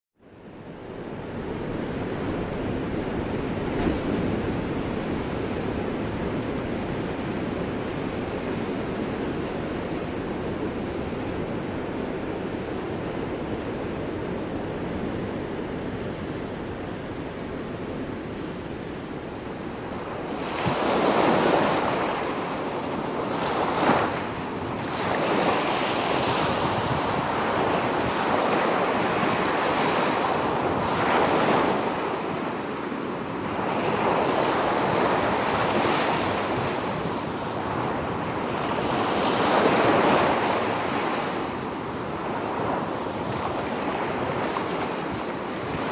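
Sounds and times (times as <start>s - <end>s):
ocean waves breaking: 0.6s - 9.9s, 12.2s - 45.9s.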